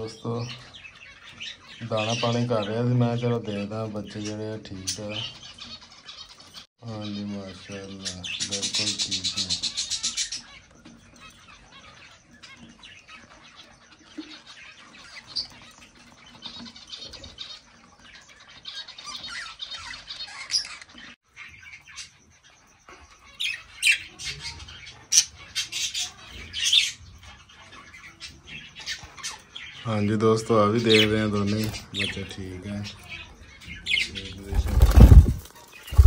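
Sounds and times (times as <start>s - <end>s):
budgerigars chirping: 0.0s - 36.0s.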